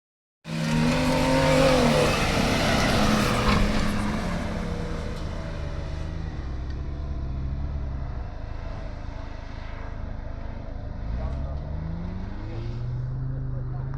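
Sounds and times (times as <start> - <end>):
off-road vehicle engine revving: 0.5 - 13.9.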